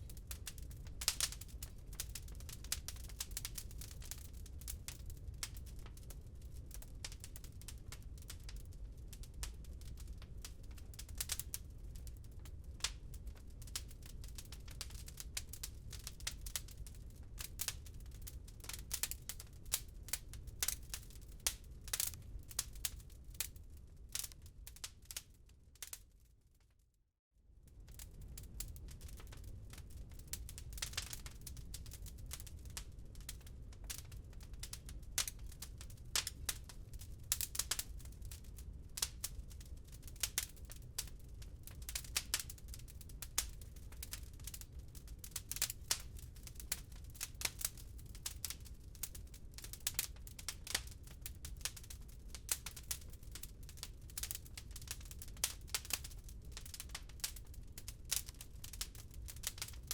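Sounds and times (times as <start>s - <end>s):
wood fire crackling: 0.0s - 26.1s, 27.6s - 59.9s
low rumble of fire: 0.0s - 59.9s.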